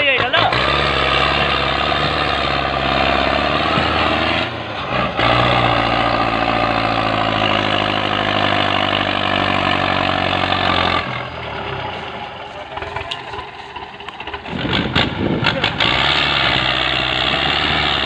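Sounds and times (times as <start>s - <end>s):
tractor engine under heavy load: 0.0s - 18.0s.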